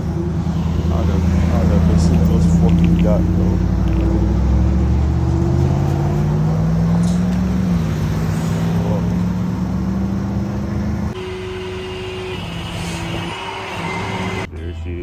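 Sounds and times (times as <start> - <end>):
car engine accelerating: 0.0 - 14.5
steady tone: 0.0 - 14.5.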